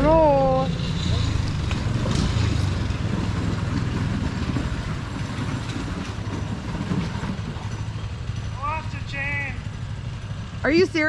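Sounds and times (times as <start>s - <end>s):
small gas engine running: 0.0s - 11.0s
rhythmic mechanical clatter: 0.6s - 11.0s.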